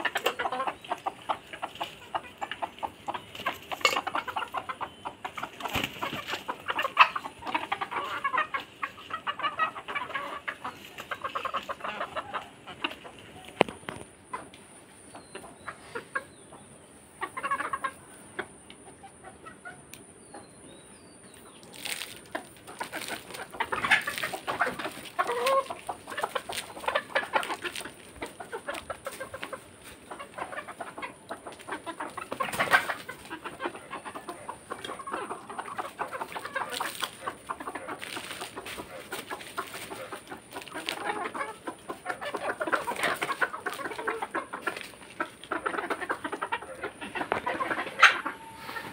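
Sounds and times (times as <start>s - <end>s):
hens clucking: 0.0s - 48.9s.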